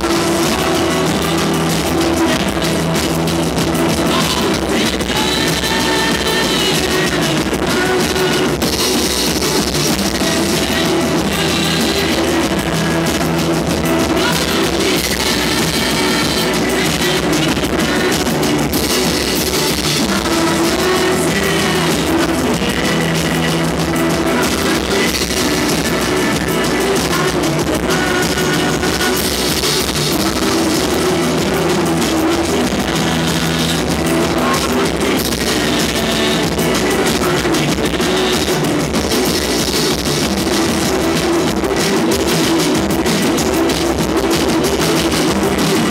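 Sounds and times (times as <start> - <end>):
drum kit and hand drums: 0.0 - 45.9
live rock band playing: 0.0 - 45.9.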